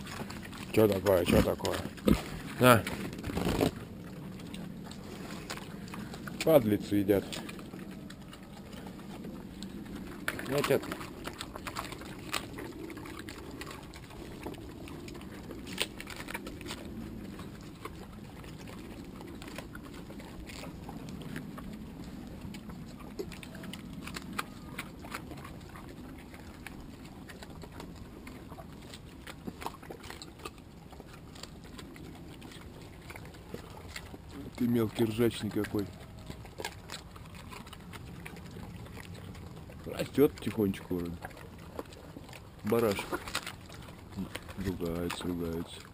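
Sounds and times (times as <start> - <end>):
pigs crunching apples: 0.0 - 45.9.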